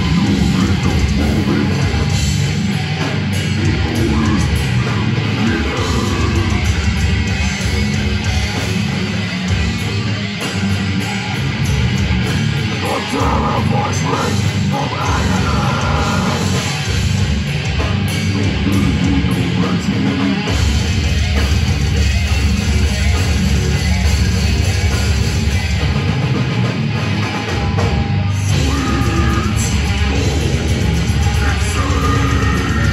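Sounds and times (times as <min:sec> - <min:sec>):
distorted electric guitars: 0:00.0 - 0:32.9
drums: 0:00.0 - 0:32.9.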